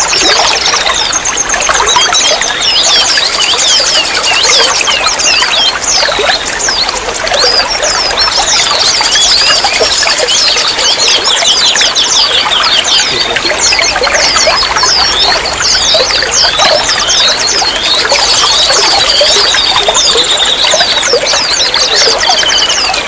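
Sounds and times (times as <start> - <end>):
water trickling and babbling: 0.0 - 23.0.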